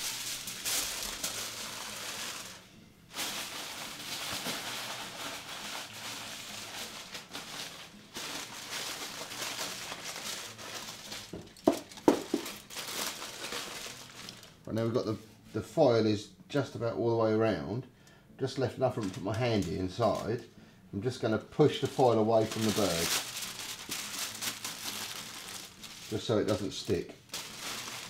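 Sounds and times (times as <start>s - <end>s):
aluminium foil crinkling: 0.0s - 14.6s, 18.9s - 20.4s, 21.1s - 28.0s.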